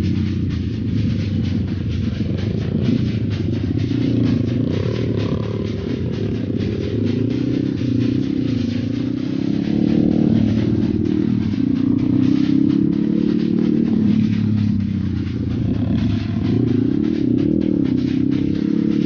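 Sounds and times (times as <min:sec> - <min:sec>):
dirt bike engine revving: 0:02.1 - 0:19.0.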